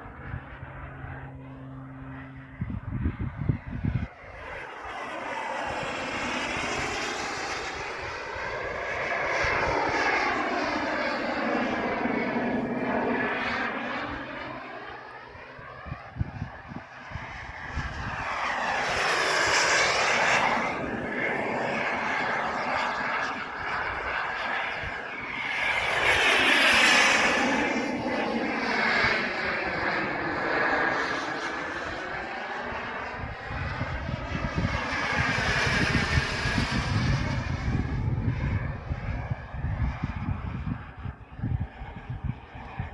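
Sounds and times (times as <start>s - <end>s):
model jet turbine flying past: 0.0s - 42.9s.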